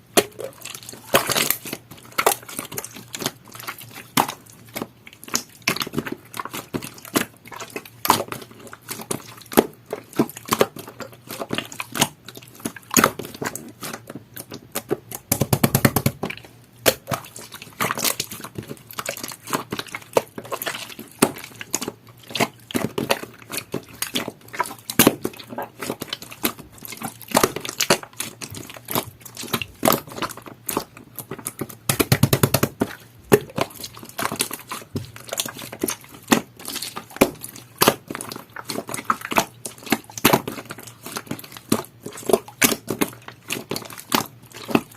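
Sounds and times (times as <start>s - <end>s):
slime squishing: 0.0s - 44.9s.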